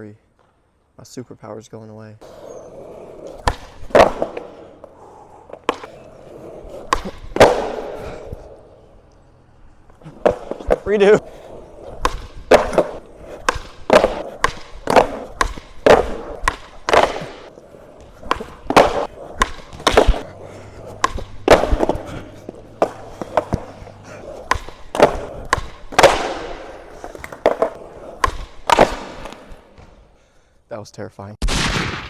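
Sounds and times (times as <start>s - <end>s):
skateboard clacking on pavement: 2.2s - 30.0s
skateboard wheels rolling: 2.2s - 30.3s.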